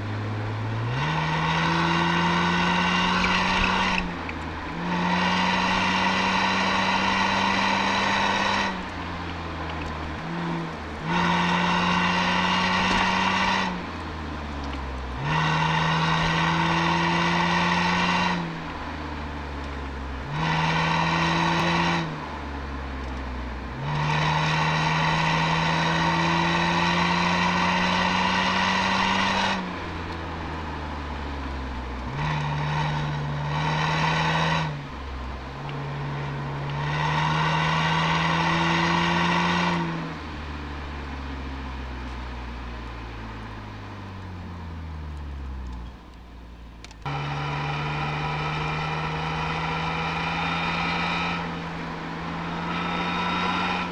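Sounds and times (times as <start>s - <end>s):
car exhaust revving: 0.0s - 53.9s.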